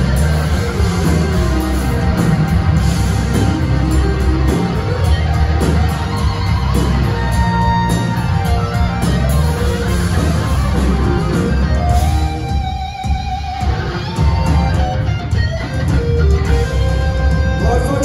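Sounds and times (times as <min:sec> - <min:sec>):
live blues-rock band playing: 0:00.0 - 0:18.0.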